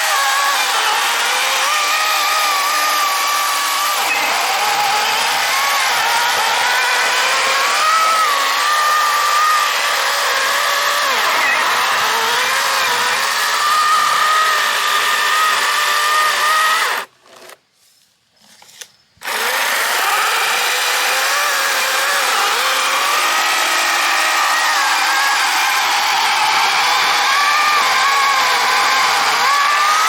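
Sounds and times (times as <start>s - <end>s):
chainsaw cutting wood: 0.0s - 17.7s, 18.5s - 30.0s.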